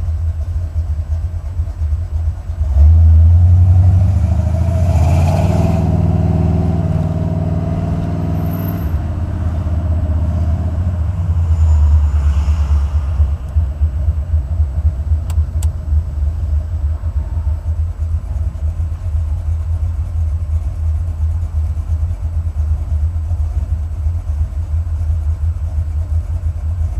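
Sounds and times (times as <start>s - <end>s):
car engine rumbling: 0.0s - 26.9s.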